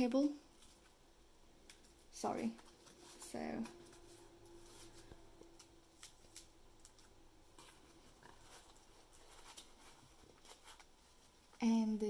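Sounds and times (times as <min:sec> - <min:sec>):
faint clicks and rustles: 0:00.5 - 0:01.0, 0:01.6 - 0:11.6.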